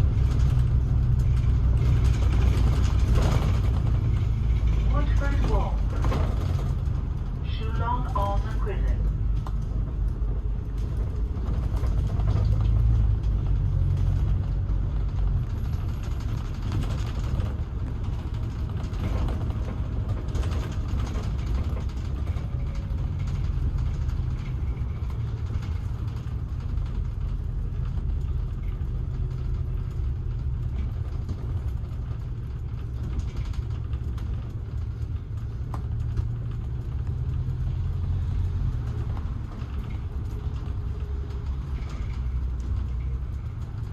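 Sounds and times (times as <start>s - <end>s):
road vehicle rumble: 0.0s - 43.9s.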